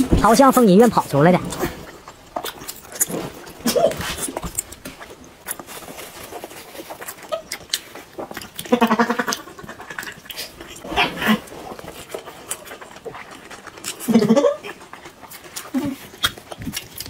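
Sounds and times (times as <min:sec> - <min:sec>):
chewing clicks: 0:01.5 - 0:03.4, 0:04.2 - 0:10.8, 0:11.8 - 0:17.0.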